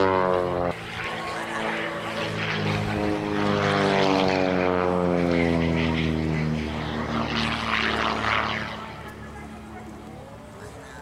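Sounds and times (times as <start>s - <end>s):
propeller plane engine passing by: 0.0s - 11.0s.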